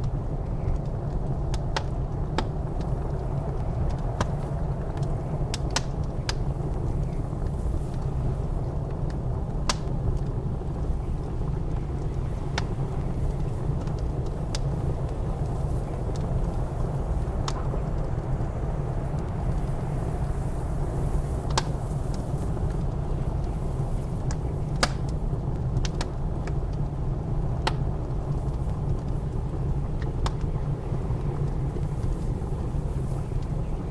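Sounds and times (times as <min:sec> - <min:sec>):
blizzard wind rumbling: 0:00.0 - 0:33.9
wood fire crackling and popping: 0:00.0 - 0:33.9.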